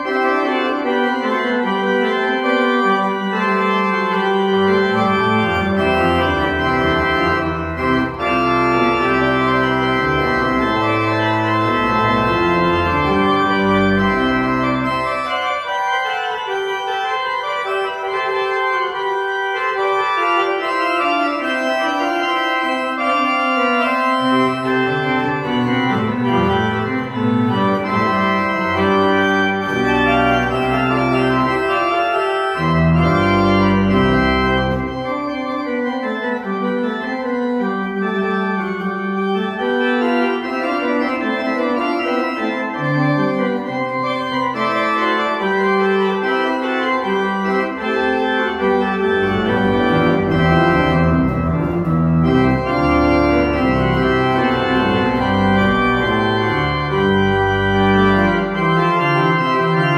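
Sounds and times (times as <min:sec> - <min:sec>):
church organ playing: 0:00.0 - 0:59.9
deep organ pedal bass notes: 0:00.0 - 0:59.9.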